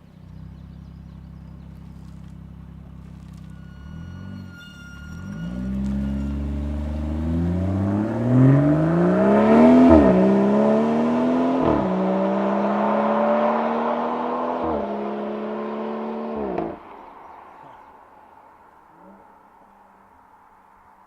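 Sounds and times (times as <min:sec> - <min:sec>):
car accelerating and upshifting: 0:00.0 - 0:21.0.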